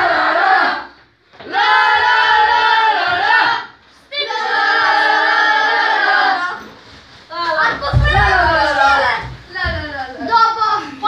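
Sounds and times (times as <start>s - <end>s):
boys singing in unison: 0.0s - 9.8s.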